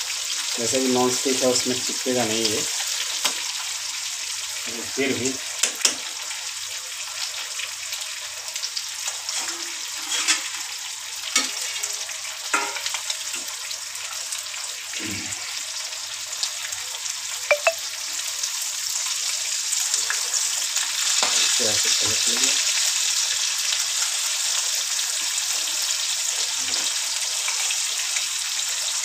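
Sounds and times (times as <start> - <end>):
fish sizzling in oil: 0.0 - 29.0.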